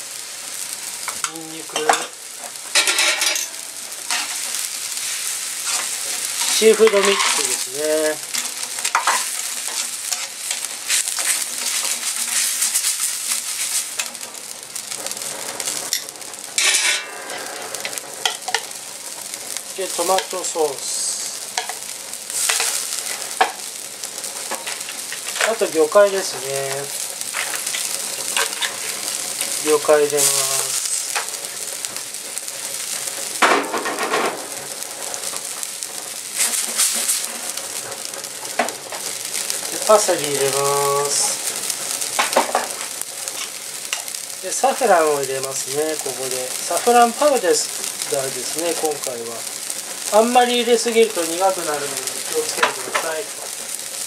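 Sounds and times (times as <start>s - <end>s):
broth bubbling and sizzling in pan: 0.0s - 54.0s.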